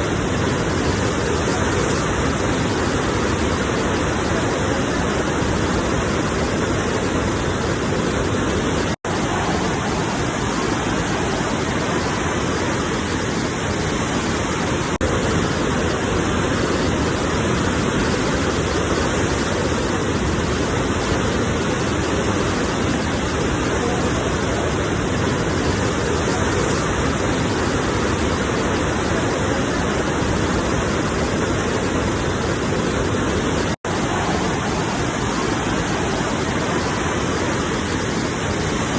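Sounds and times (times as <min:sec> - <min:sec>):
sea waves and surf: 0:00.0 - 0:38.9.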